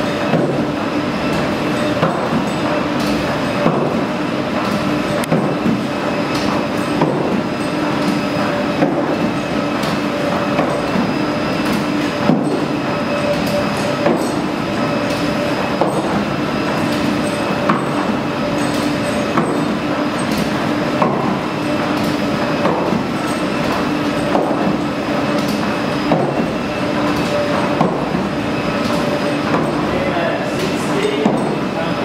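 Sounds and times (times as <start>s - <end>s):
treadmill belt humming: 0.0s - 32.0s.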